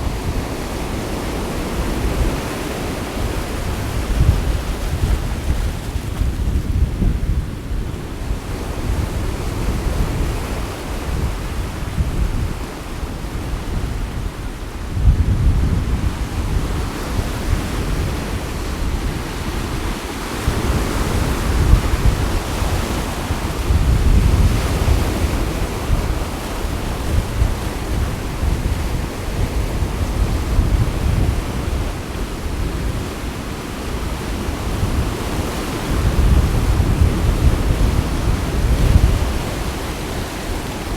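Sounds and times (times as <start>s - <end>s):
sea waves washing ashore: 0.0s - 40.9s
wind buffeting microphone: 0.0s - 40.9s.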